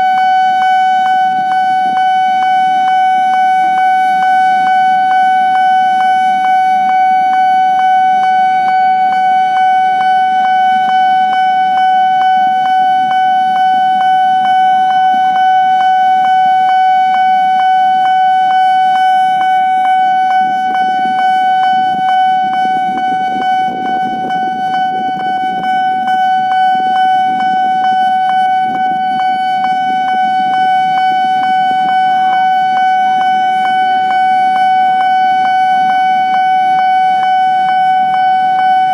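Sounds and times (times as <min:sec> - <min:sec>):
level crossing warning alarm: 0:00.0 - 0:38.9.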